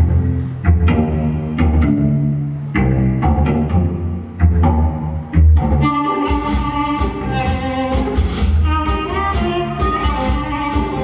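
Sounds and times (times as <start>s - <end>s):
music with deep bass line: 0.0s - 11.0s.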